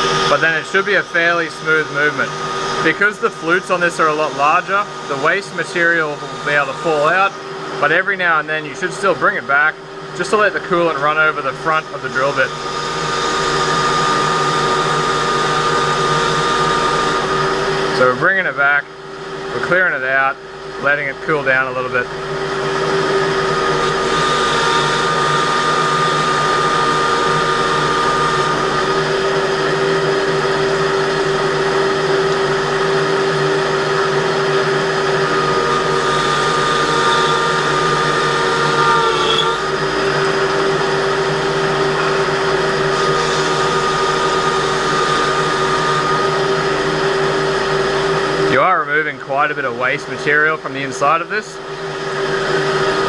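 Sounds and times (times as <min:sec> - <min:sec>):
metal lathe drilling whine: 0:00.0 - 0:53.0.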